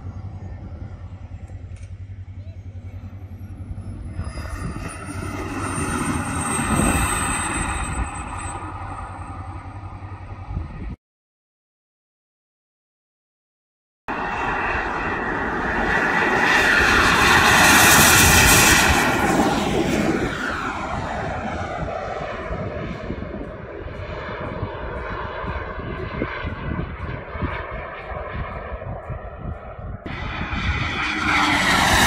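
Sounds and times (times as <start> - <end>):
model jet turbine roaring: 0.0 - 11.0, 14.1 - 32.0.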